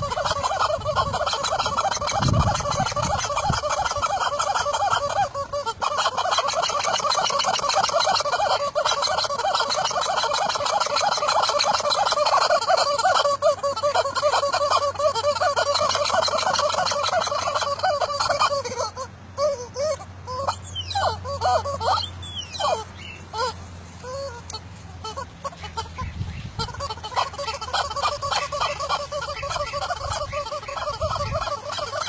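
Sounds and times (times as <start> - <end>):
rubber duck toy squeaking: 0.0 - 32.0.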